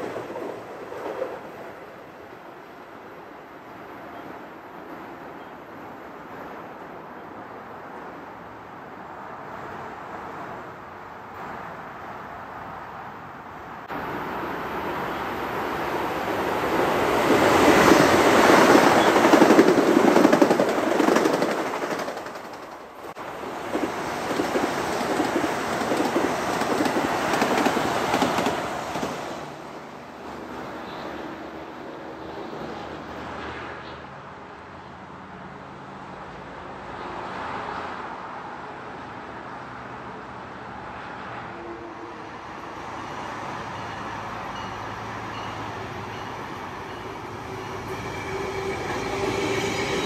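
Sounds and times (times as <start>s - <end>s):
train passing with rattling rumble: 0.0s - 50.0s.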